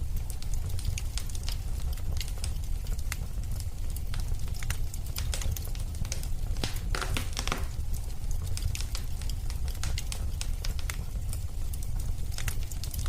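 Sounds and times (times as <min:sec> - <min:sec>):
fire pops and snaps: 0:00.0 - 0:13.0
wood fire crackling: 0:00.0 - 0:13.0.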